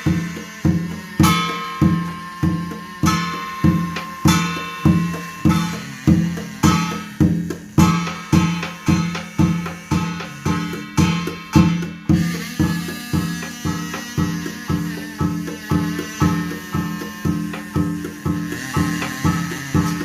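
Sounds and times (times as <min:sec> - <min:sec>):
drum struck in steady beat: 0:00.0 - 0:20.0
pipe playing sustained notes: 0:00.0 - 0:20.0.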